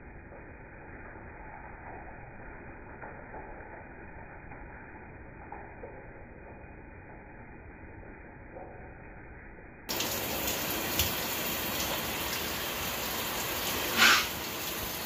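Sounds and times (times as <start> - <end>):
shower water spraying: 0.2 - 7.4, 9.9 - 15.0.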